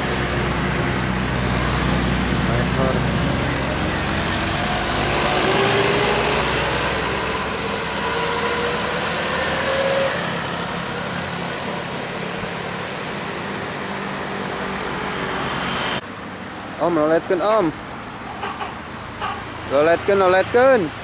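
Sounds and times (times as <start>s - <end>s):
large vehicle engine passing: 0.0s - 17.6s
steady traffic noise: 0.0s - 21.0s.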